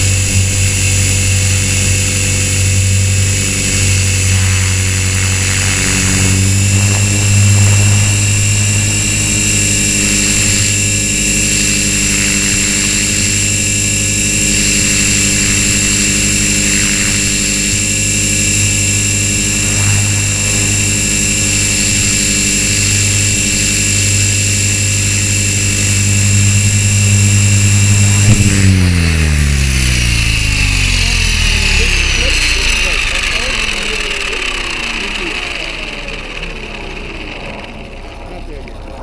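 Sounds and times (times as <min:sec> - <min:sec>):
electric motor whine: 0:00.0 - 0:39.0
helicopter rotor thrum: 0:00.0 - 0:39.0.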